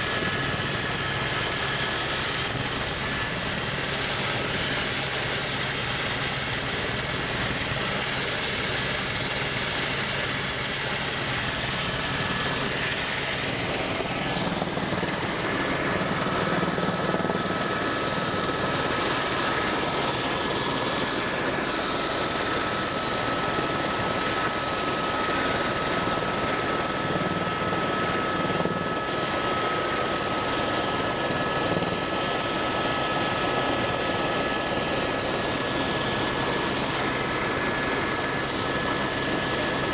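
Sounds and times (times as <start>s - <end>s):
aircraft engine drone: 0.0s - 39.9s
faint steady whine: 0.0s - 39.9s.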